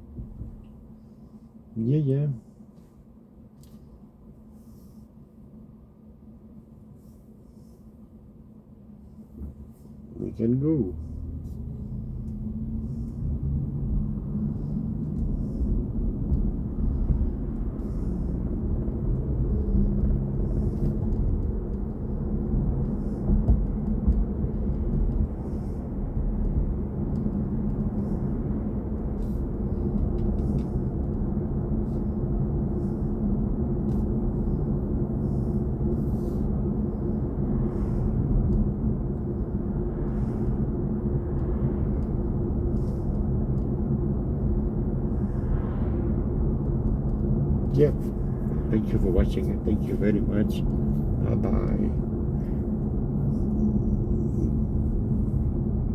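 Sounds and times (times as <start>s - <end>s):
road and tyre rumble: 0.0s - 55.9s.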